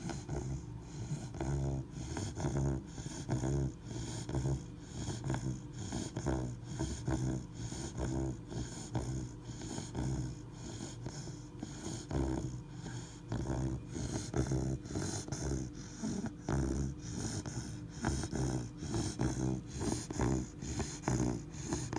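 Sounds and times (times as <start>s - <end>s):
puppy snoring: 0.0s - 21.9s.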